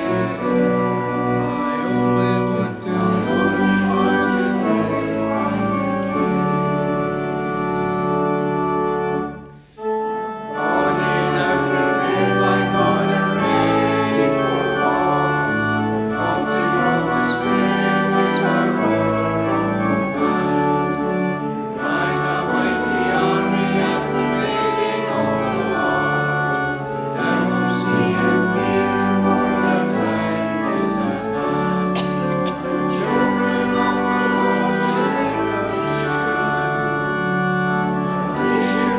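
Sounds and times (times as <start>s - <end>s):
congregation singing: 0.0s - 38.9s
organ playing hymn chords: 0.0s - 38.9s.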